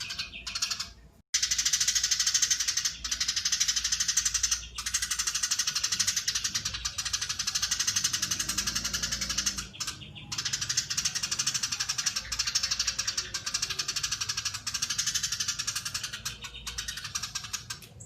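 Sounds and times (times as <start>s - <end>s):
sparrow chattering trill: 0.0s - 18.0s.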